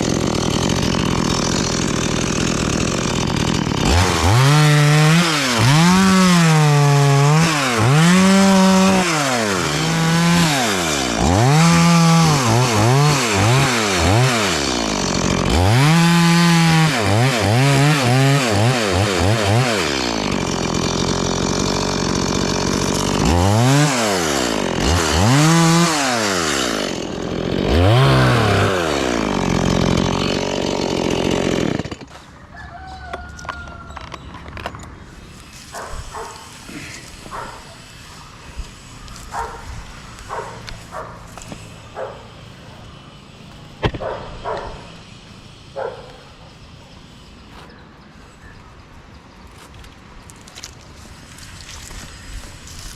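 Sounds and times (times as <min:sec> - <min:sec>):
chainsaw cutting wood: 0:00.0 - 0:46.2, 0:49.6 - 0:52.9.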